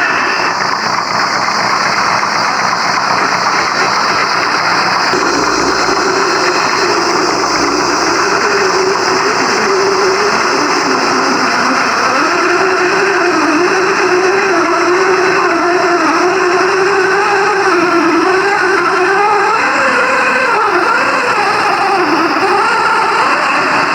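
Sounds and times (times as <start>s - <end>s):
simulated car engine sound: 0.0s - 23.9s.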